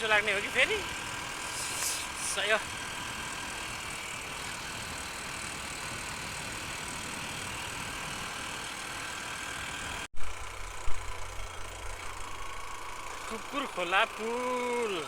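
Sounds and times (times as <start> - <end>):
wind and road noise: 0.0 - 14.1
motorcycle engine running: 0.0 - 15.0.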